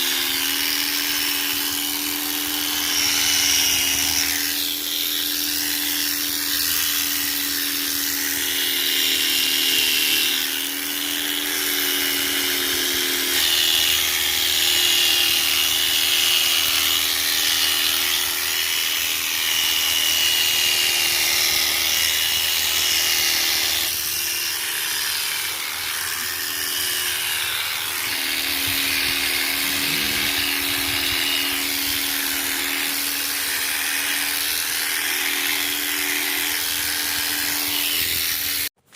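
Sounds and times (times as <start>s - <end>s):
electric clipper motor whining: 0.0s - 38.8s.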